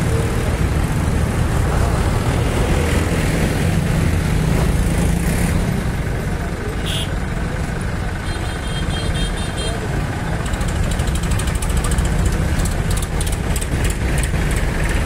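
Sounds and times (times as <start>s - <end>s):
diesel tractor engines running: 0.0s - 15.0s
motorcycle and road traffic: 0.0s - 15.0s.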